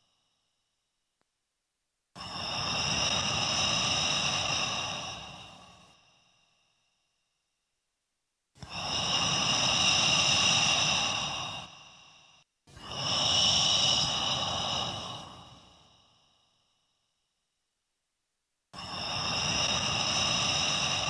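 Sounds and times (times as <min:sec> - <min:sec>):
long slow breaths: 0:00.0 - 0:01.0, 0:02.1 - 0:07.6, 0:08.6 - 0:17.6, 0:18.7 - 0:21.0.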